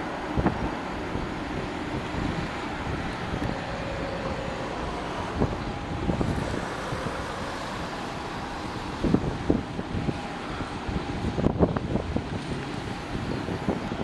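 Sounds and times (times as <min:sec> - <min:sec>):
distant jet engines whining: 0:00.0 - 0:14.0
wind buffeting microphone: 0:00.0 - 0:14.0.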